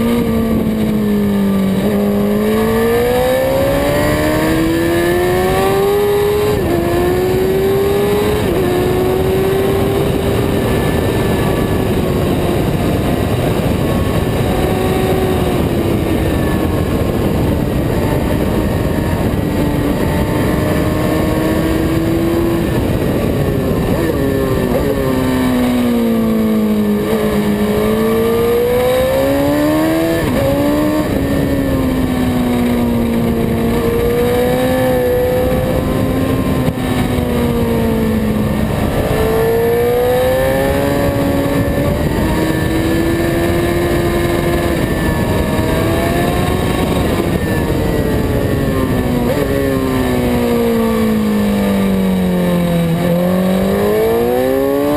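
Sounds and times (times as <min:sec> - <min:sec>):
racing motorcycle engine: 0:00.0 - 0:54.9
wind noise on camera: 0:00.0 - 0:54.9.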